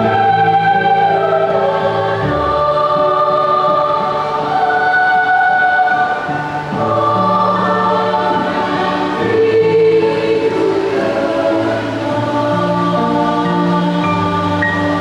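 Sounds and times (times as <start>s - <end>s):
children's choir singing a carol: 0.0s - 15.0s.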